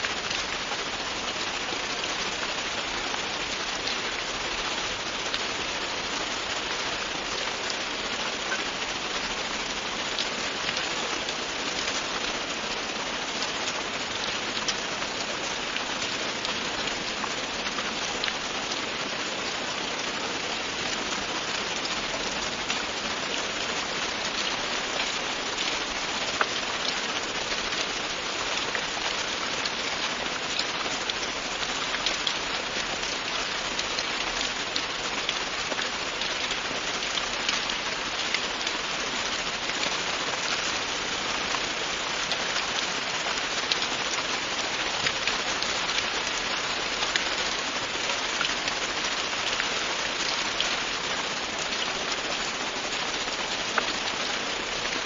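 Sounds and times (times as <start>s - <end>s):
rain falling: 0.0s - 55.0s
raindrops ticking on hard surface: 0.1s - 55.0s.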